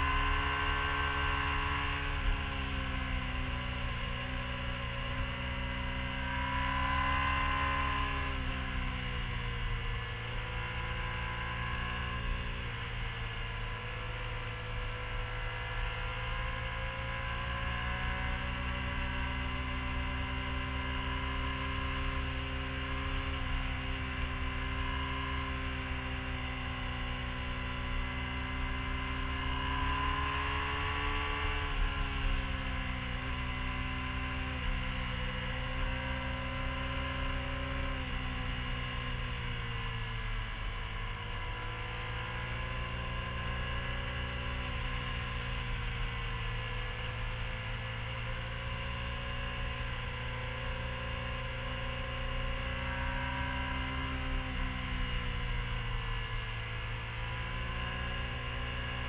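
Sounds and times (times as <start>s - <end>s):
motorcycle engine revving: 0.0s - 59.0s
wind and road rumble: 0.0s - 59.0s.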